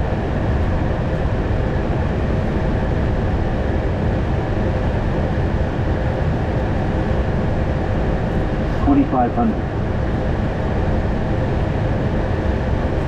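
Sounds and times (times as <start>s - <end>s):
faint steady hum: 0.3s - 13.0s.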